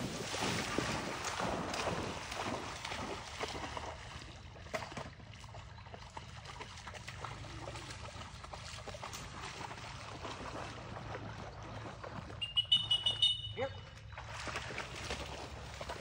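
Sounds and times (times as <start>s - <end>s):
dog splashing in water: 0.0s - 12.8s, 13.8s - 16.0s
water lapping: 0.0s - 16.0s.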